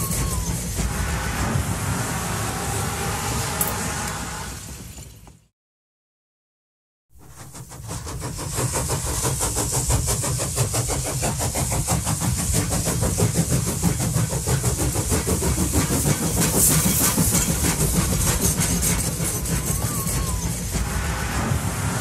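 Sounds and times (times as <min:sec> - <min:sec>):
locomotive engine rumbling: 0:00.0 - 0:05.2, 0:07.3 - 0:22.0
locomotive hiss: 0:00.0 - 0:05.2, 0:07.2 - 0:22.0.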